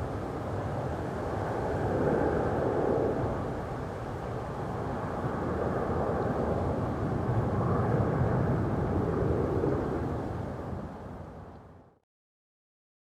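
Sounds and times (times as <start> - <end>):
jet engines rumbling: 0.0 - 11.4.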